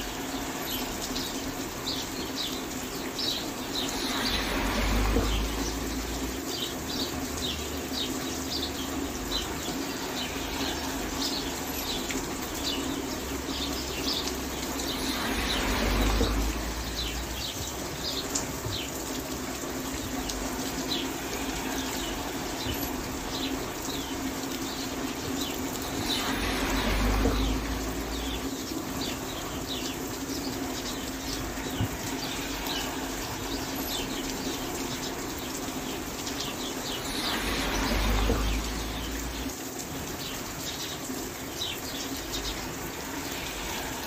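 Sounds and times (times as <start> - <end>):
rain falling: 0.0 - 44.0
small birds chirping: 0.0 - 44.0.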